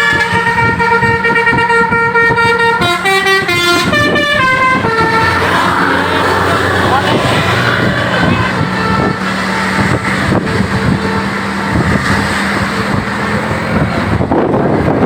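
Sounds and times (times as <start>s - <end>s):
bus engine droning: 0.0s - 15.0s
road traffic noise: 0.0s - 15.0s.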